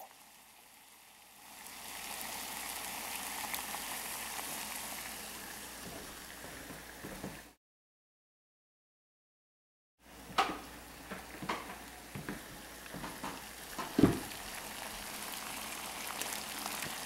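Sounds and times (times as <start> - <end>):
water boiling in a pot: 0.0 - 7.6, 10.0 - 17.0.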